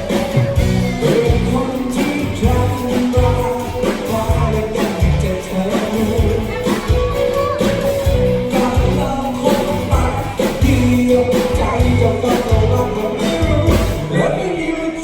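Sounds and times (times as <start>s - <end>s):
person singing: 0.0s - 15.0s
pop music with beat bass and guitar: 0.0s - 15.0s.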